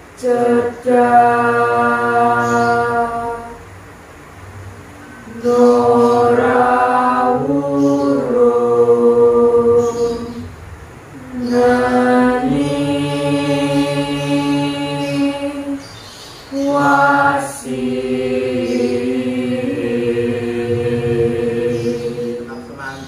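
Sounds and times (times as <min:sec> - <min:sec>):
group singing unaccompanied: 0:00.0 - 0:03.9, 0:04.8 - 0:23.0.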